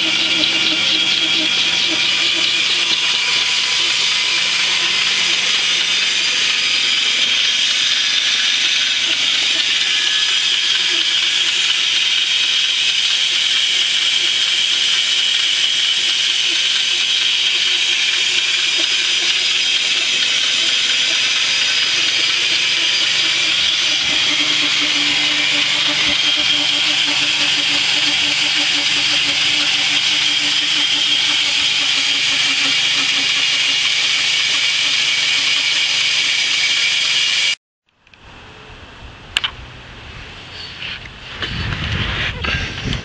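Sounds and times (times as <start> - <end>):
bandsaw cutting wood: 0.0 - 37.6.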